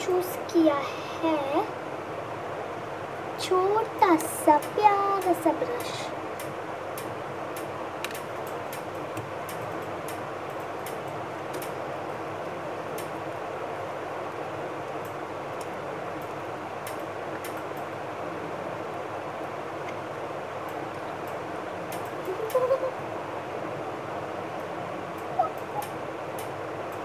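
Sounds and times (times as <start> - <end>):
air conditioner whirring: 0.0 - 27.0.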